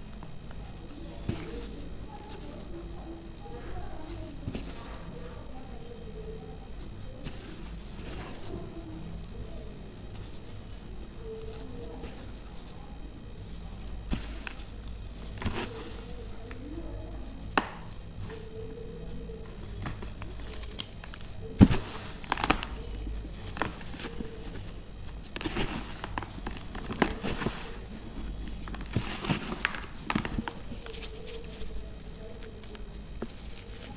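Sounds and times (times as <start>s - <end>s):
baking soda crunching and crumbling: 0.6s - 33.9s.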